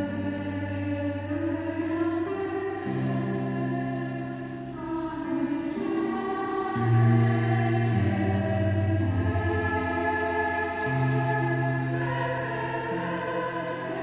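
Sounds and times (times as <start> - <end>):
mixed choir singing chords: 0.0 - 14.0.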